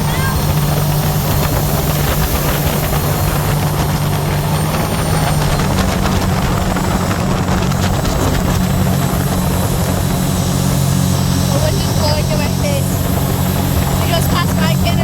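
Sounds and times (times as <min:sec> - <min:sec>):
boat engine drone: 0:00.0 - 0:15.0
steady rushing noise: 0:00.0 - 0:15.0.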